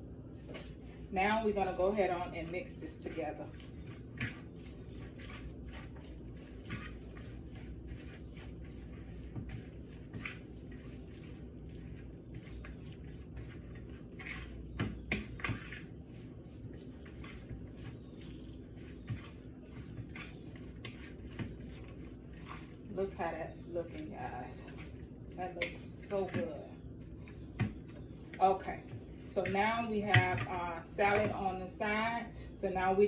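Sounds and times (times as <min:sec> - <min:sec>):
salad being stirred in bowl: 0:00.4 - 0:31.8.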